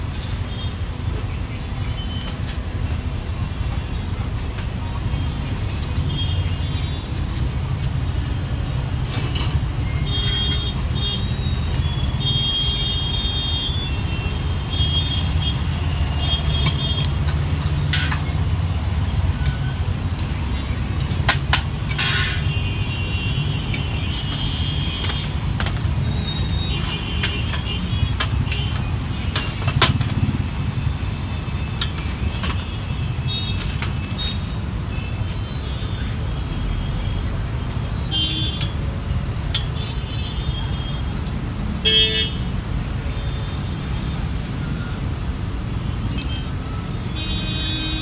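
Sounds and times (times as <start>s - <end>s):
street traffic rumble: 0.0s - 48.0s.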